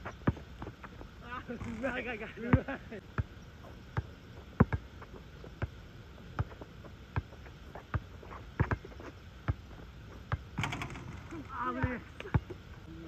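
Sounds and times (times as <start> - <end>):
basketball bouncing on asphalt: 0.1 - 12.6.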